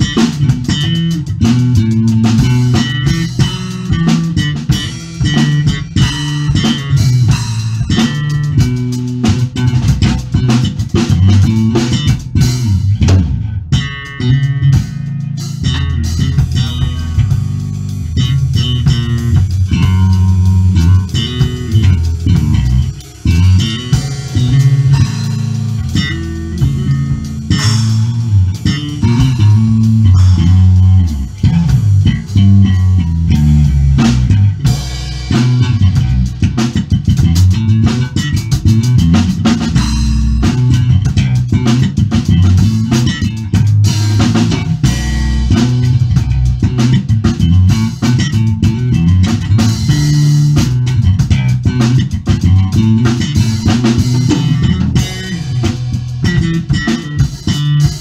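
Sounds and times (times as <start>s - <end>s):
drum kit: 0.0s - 58.0s
electric bass guitar: 0.0s - 58.0s.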